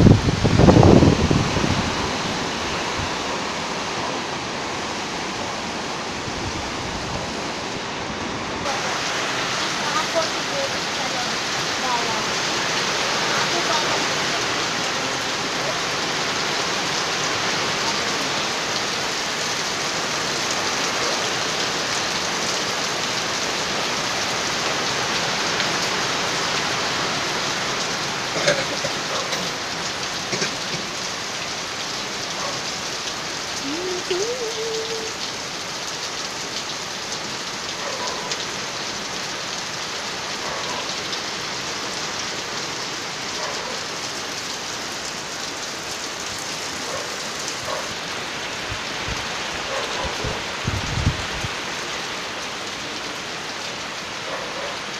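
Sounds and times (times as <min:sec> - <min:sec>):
heavy rain on concrete: 0:00.0 - 0:54.9
water running off roof: 0:00.0 - 0:54.9.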